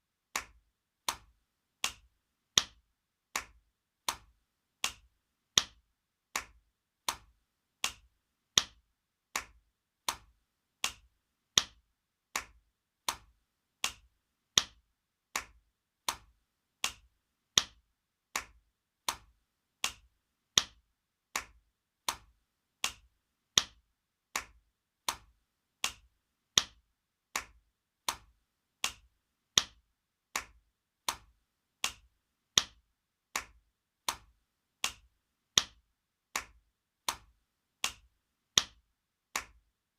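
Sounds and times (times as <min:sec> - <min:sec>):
hand slaps: 0:00.3 - 0:39.6.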